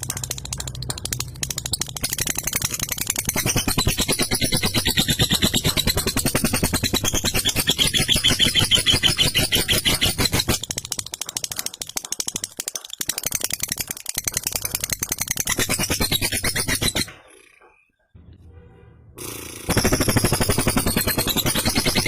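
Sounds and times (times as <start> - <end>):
lovebird chattering: 0.0 - 17.9.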